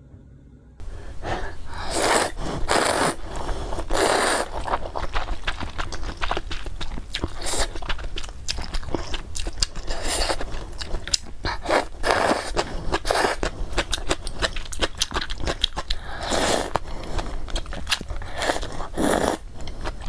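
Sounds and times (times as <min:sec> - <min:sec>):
slurping noodles: 0:00.9 - 0:20.0
wet chewing: 0:01.0 - 0:20.0.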